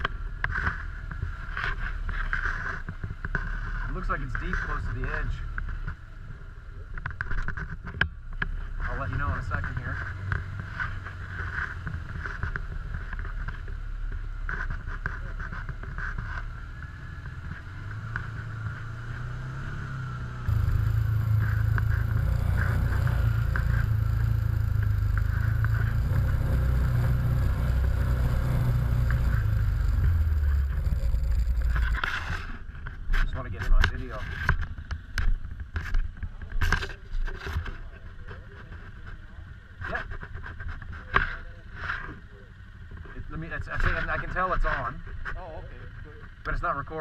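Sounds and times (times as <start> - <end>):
engine and drivetrain rumble: 0.0 - 47.0
vehicle engine running: 0.0 - 47.0.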